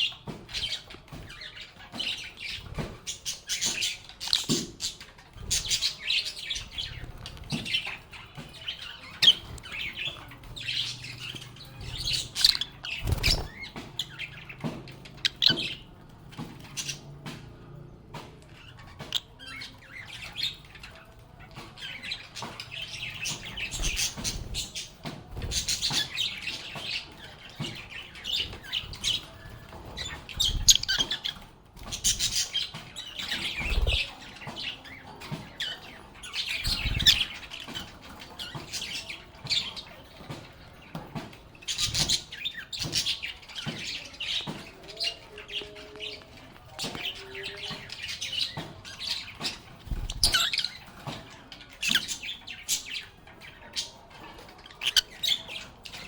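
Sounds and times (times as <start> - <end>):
lovebirds chirping and squeaking: 0.0 - 56.0.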